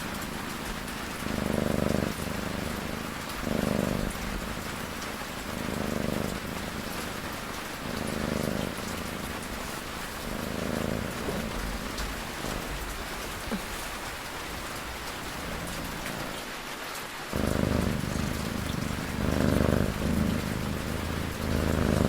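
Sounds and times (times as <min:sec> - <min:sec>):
cat snoring: 0:00.0 - 0:16.4, 0:17.3 - 0:22.0
steady rain: 0:00.0 - 0:22.0.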